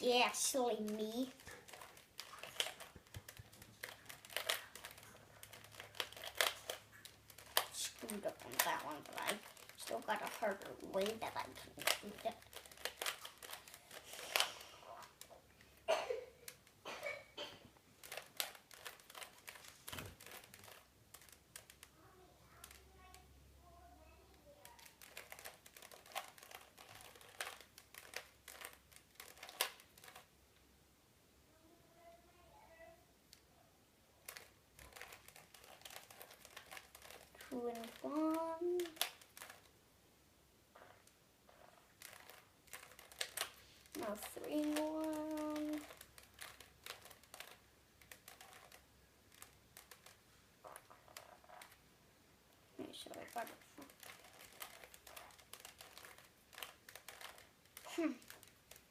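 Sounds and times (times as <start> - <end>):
plastic puzzle cube clicking: 0.0 - 15.8, 18.0 - 21.9, 22.5 - 23.2, 24.3 - 30.3, 34.2 - 39.8, 41.0 - 51.8, 52.8 - 58.9.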